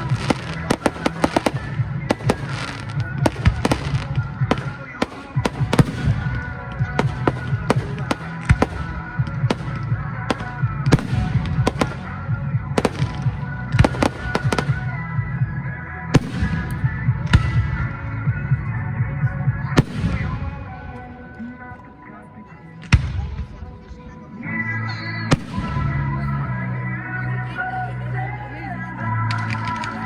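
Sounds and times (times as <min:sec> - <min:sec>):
fireworks bangs and crackles: 0:00.0 - 0:21.2, 0:22.8 - 0:24.0, 0:25.3 - 0:26.3, 0:29.2 - 0:30.0
music playing: 0:00.0 - 0:30.0.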